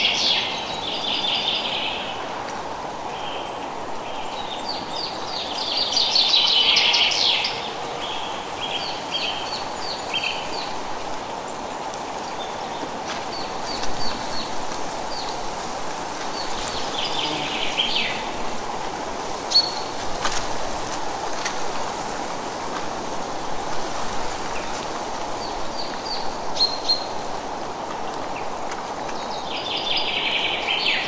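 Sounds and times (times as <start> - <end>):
wind in trees: 0.0 - 31.0.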